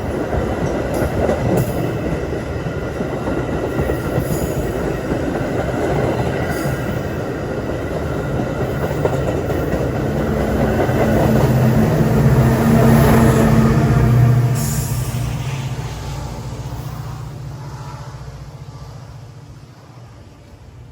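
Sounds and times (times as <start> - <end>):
train rumbling on tracks: 0.0 - 20.9.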